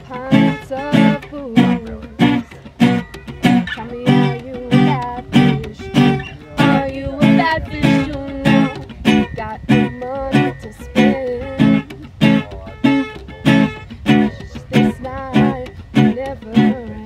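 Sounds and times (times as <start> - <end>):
acoustic guitar strumming: 0.0 - 17.0
woman singing: 0.0 - 17.0.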